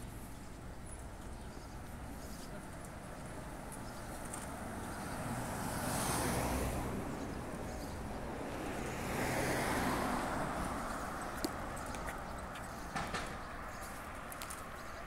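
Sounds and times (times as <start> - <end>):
cars passing by: 0.0 - 15.0.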